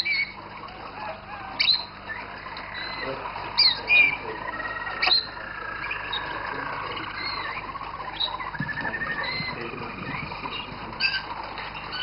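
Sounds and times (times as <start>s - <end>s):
canaries singing trills: 0.0s - 12.0s.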